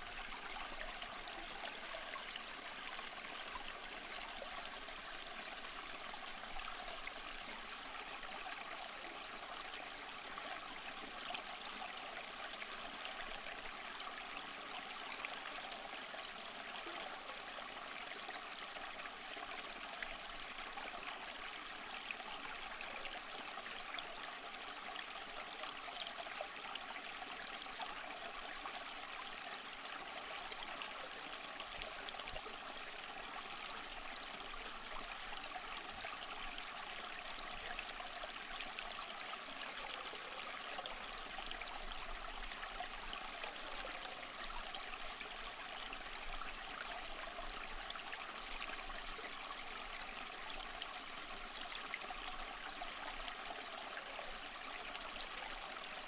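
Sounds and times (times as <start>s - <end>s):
small stream trickling: 0.0s - 56.0s.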